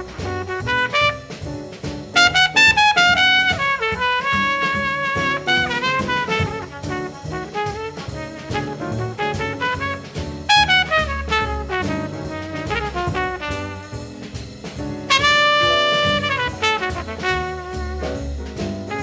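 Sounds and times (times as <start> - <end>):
bass: 0.0 - 19.0
drums: 0.0 - 19.0
jazz trumpet: 0.0 - 19.0.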